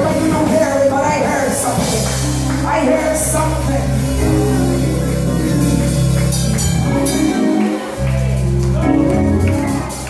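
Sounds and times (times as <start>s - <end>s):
bass guitar low notes: 0.0s - 10.0s
live praise band playing: 0.0s - 10.0s.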